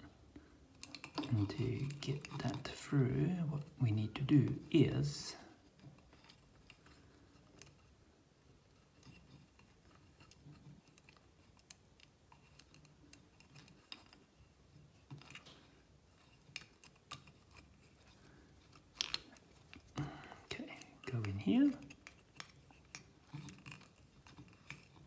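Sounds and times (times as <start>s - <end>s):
wooden puzzle clicks and rustles: 0.0s - 4.7s, 5.4s - 25.0s.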